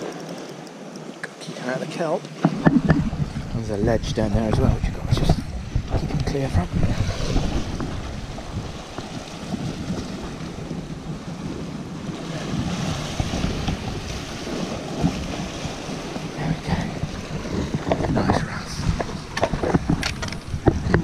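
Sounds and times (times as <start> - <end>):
sea waves breaking on rocks: 0.0 - 21.0
wind buffeting microphone: 2.4 - 21.0.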